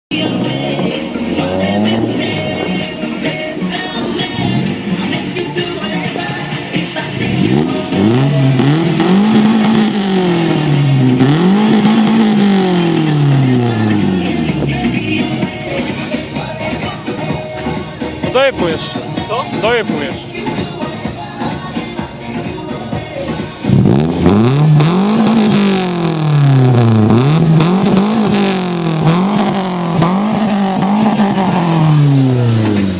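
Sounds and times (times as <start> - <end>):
car engine revving: 0.1 - 16.8, 23.0 - 32.9.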